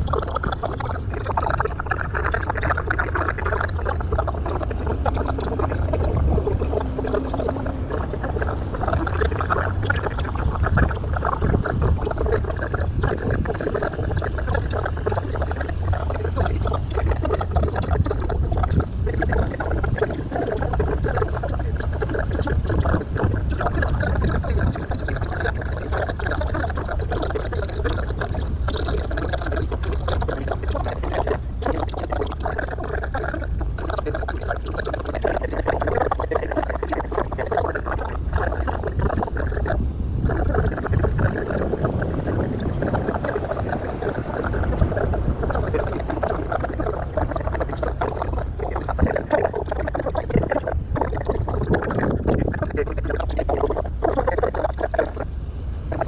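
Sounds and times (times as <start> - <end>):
boat engine noise: 0.0 - 56.0
water rushing along hull: 0.0 - 56.0.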